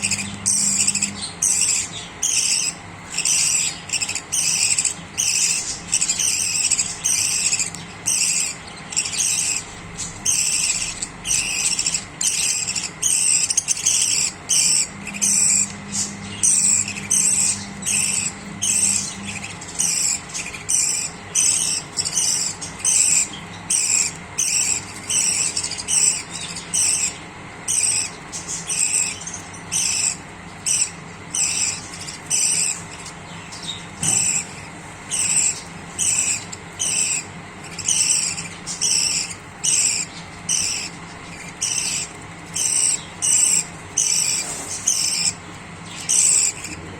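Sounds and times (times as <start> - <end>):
cage birds chirping: 0.0 - 46.9.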